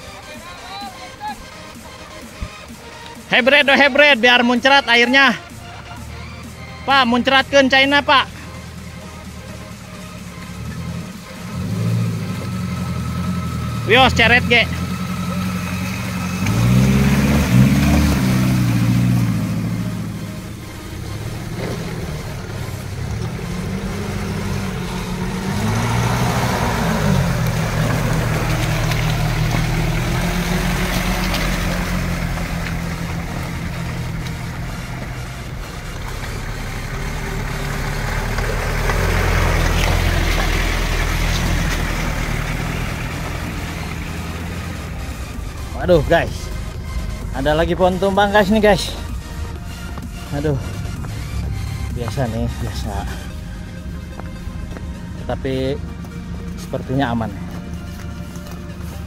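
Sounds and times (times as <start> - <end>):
off-road vehicle engines driving past: 0.0 - 59.0.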